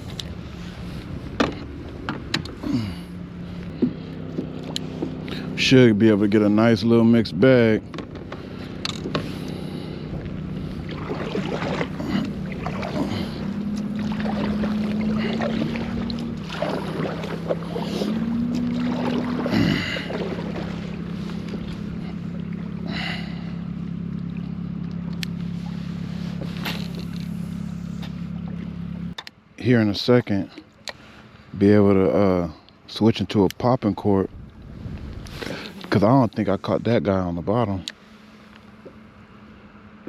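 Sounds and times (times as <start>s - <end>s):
boat motor humming: 0.0s - 40.0s.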